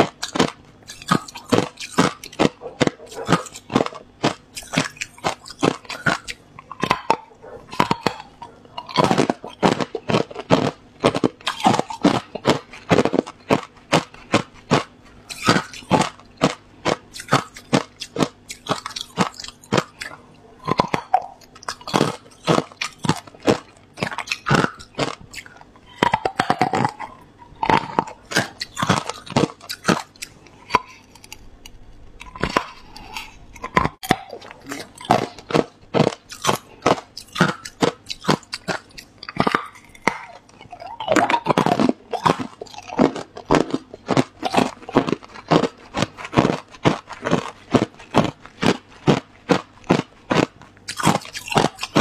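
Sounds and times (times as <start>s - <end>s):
ice crunching between teeth: 0.0s - 52.0s.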